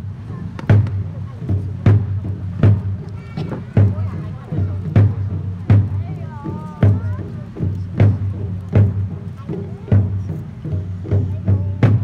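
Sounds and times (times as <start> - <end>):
faint voices: 0.0 - 12.0
taiko drums ensemble: 0.0 - 12.0.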